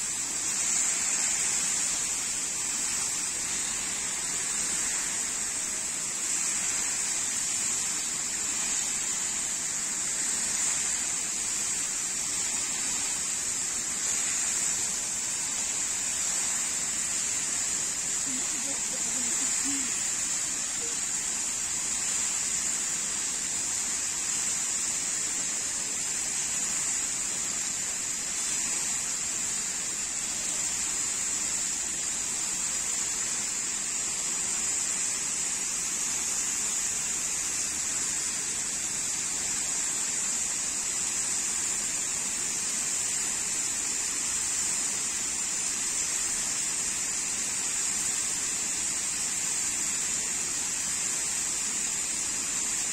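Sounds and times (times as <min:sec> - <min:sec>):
fountain water spraying: 0:00.0 - 0:52.9.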